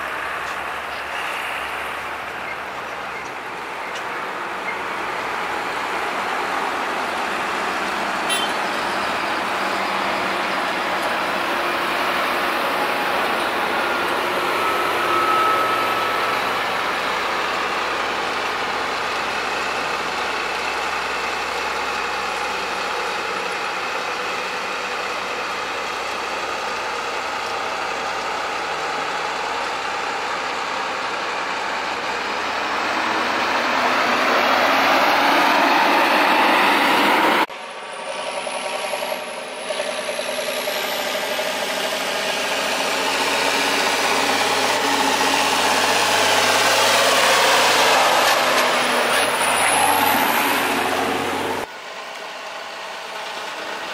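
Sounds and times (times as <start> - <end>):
combine harvester running: 0.0 - 53.9
tractor engine: 0.0 - 53.9.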